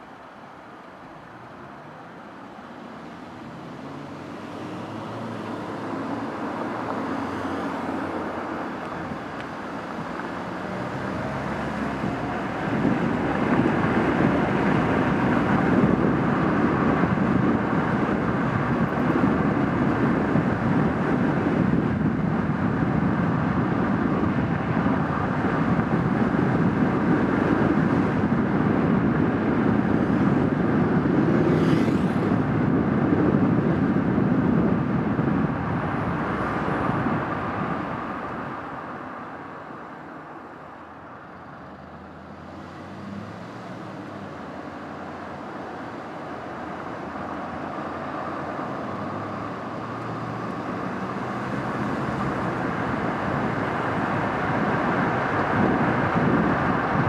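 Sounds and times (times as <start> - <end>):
tyre and road noise: 0.0 - 57.0
car engine accelerating: 2.9 - 39.0, 41.4 - 57.0.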